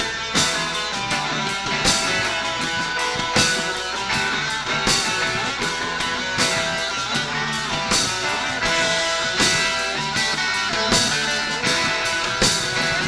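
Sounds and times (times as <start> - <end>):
psychedelic rock band jam: 0.0 - 13.0.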